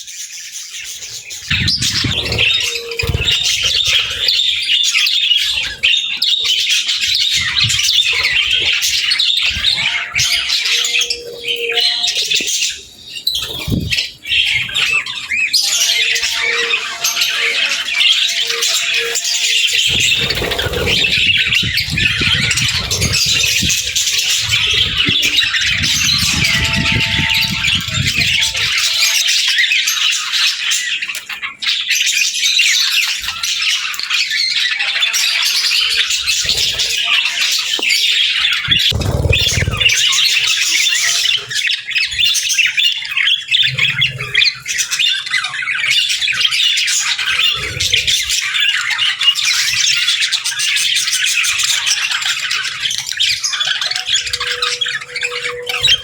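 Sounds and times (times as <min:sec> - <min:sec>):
budgerigars chattering: 0:00.8 - 0:31.5, 0:33.6 - 0:56.0.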